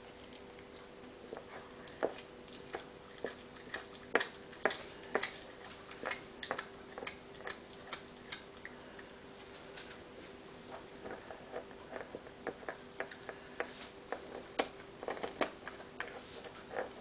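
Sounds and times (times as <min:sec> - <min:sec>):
cat crunching meat and bone: 0:00.0 - 0:17.0.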